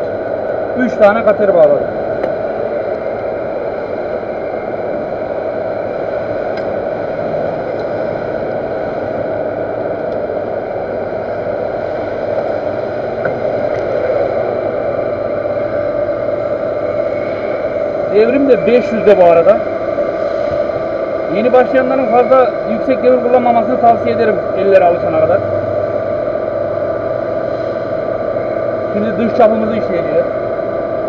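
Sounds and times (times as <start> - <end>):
lathe humming: 0.0 - 31.0
noisy hiss: 0.0 - 31.0.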